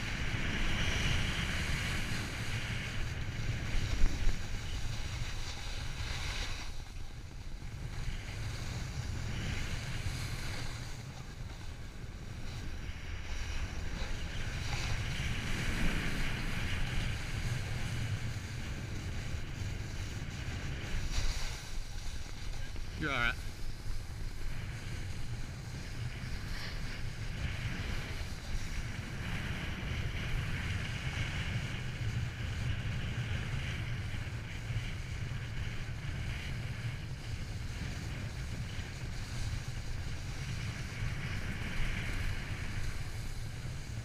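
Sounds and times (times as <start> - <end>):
snowboard scraping over snow: 0.0 - 44.0
wind buffeting microphone: 0.0 - 44.0.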